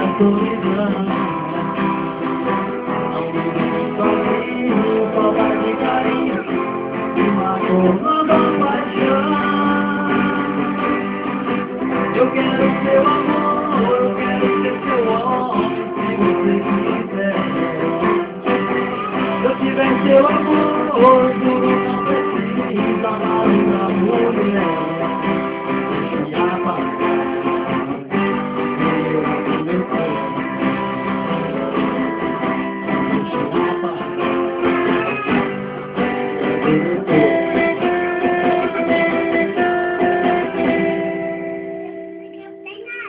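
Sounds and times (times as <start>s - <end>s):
instrumental guitar music: 0.0s - 43.0s.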